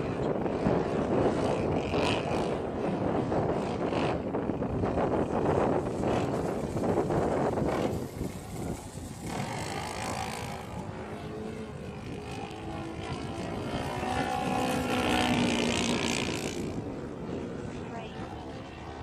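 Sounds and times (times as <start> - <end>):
model plane engine: 0.0 - 19.0.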